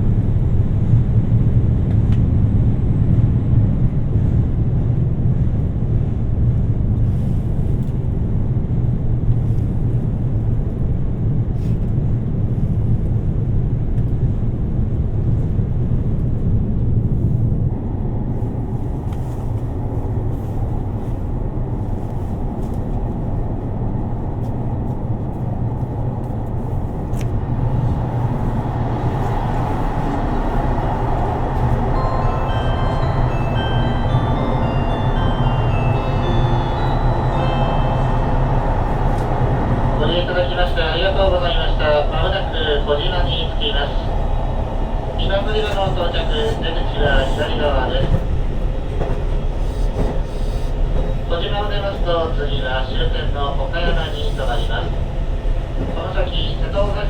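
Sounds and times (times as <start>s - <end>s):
train engine and wheels rumbling: 0.0s - 57.0s.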